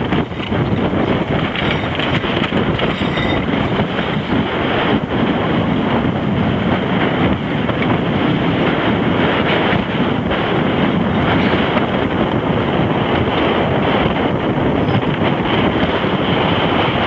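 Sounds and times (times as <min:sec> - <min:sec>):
wind blasting microphone: 0:00.0 - 0:17.0.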